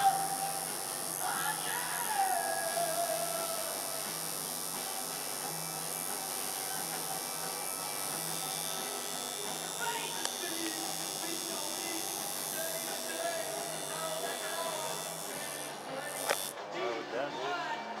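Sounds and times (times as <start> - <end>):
electric tattoo machine buzzing: 0.0 - 16.6.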